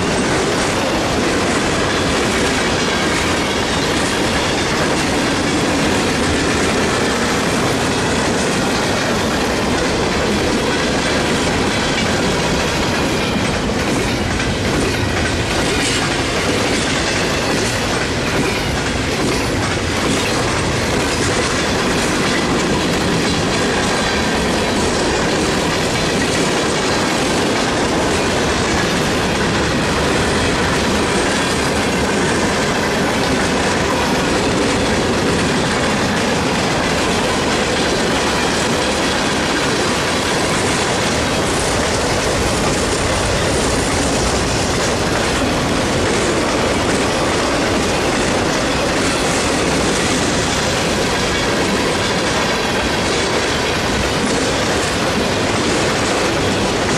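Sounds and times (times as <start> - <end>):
steel wheels on rail: 0.0 - 56.9.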